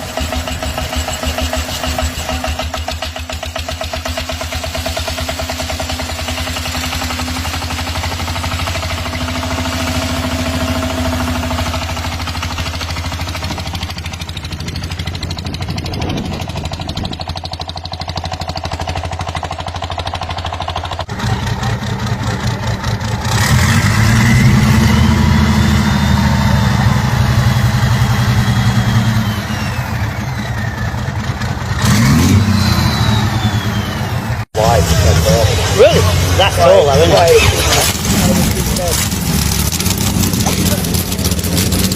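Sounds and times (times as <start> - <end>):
engine revving: 0.0 - 41.9
motorcycle engine running: 0.0 - 41.9.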